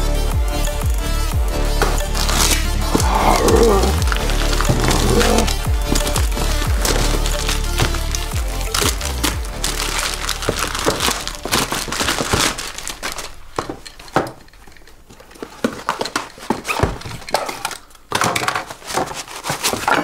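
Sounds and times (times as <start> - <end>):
knife cutting tape and cardboard: 1.8 - 14.4, 15.6 - 20.0
packaging crumpling and rustling: 2.1 - 20.0.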